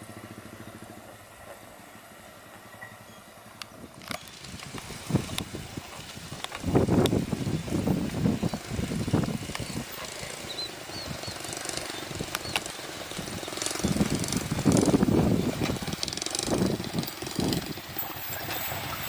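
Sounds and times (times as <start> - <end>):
diesel locomotive engine throbbing: 0.0 - 6.0, 6.8 - 19.0.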